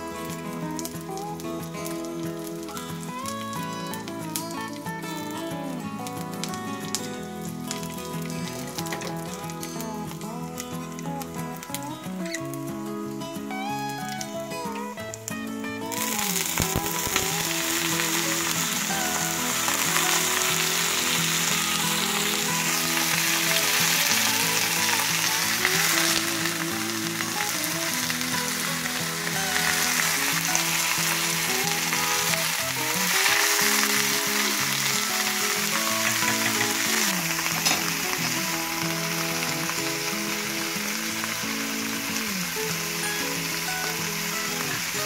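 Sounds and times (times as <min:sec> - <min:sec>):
background music: 0:00.0 - 0:45.0
leaves sizzling in hot oil: 0:00.0 - 0:45.0.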